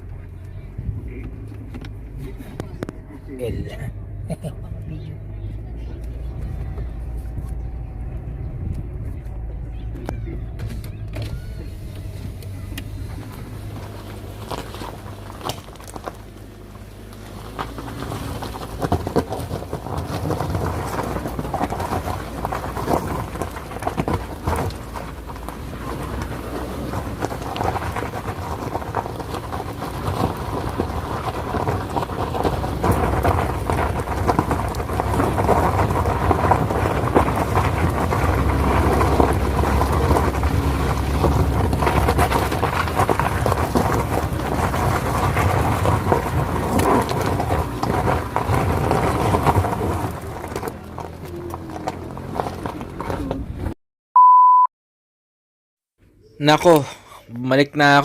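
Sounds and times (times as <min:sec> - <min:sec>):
car engine straining: 0:00.0 - 0:53.8
gravel crackling under tyres: 0:00.0 - 0:53.8, 0:56.0 - 0:58.0.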